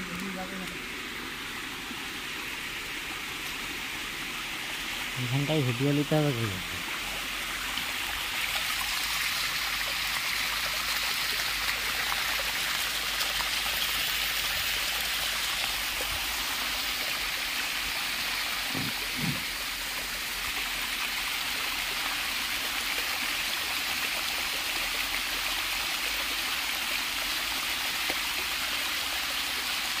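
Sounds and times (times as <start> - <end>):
water trickling down concrete: 0.0 - 0.9, 3.4 - 30.0.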